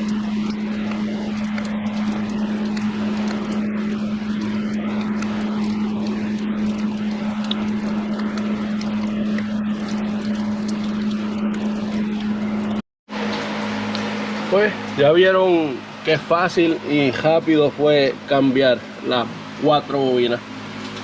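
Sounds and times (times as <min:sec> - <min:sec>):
machine drone: 0:00.0 - 0:21.0.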